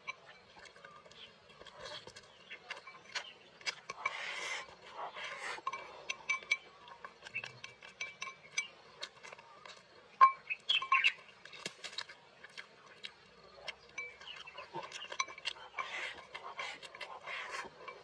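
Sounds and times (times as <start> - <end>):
mouth sounds of eating: 0.0 - 18.0.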